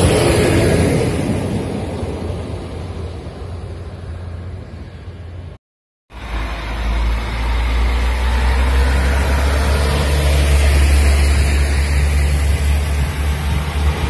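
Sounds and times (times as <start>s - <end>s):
diesel train engines droning: 0.0s - 14.0s.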